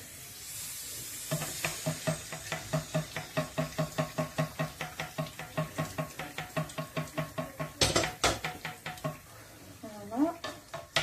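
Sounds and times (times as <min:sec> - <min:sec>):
dough sizzling in oil: 0:00.0 - 0:11.0.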